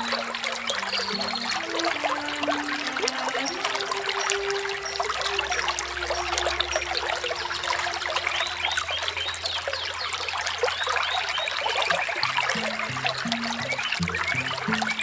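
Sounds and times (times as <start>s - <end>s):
bird chirping: 0.0s - 15.0s
small waterfall splashing: 0.0s - 15.0s.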